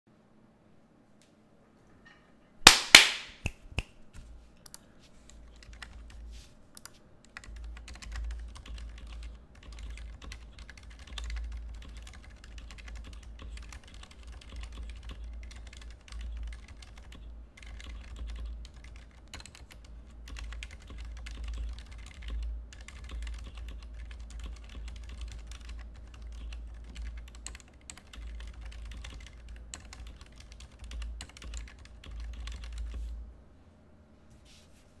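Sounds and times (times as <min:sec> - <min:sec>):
keyboard typing: 0:04.2 - 0:33.2.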